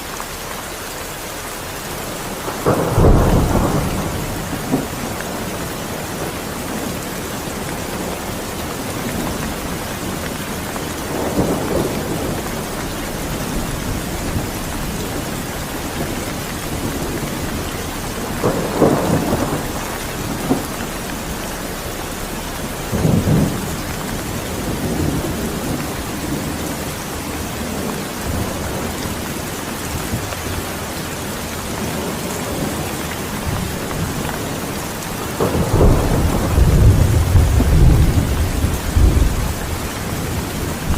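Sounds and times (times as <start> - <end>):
steady rain falling: 0.0 - 40.9
thunder rumbling: 2.0 - 40.9.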